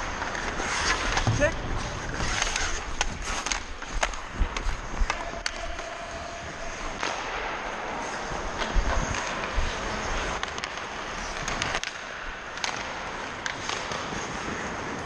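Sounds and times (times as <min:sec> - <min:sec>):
hockey sticks clacking: 0:00.0 - 0:15.0
skate blades scraping ice: 0:00.0 - 0:15.0.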